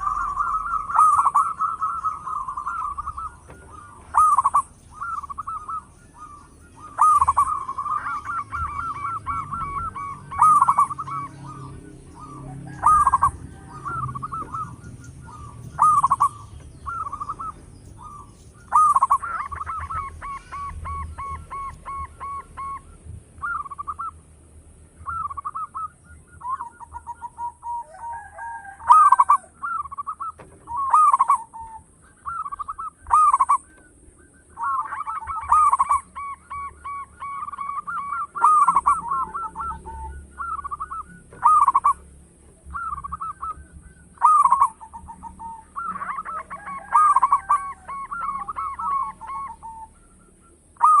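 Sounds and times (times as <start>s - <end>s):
dove cooing: 0.0s - 24.3s, 24.9s - 51.0s.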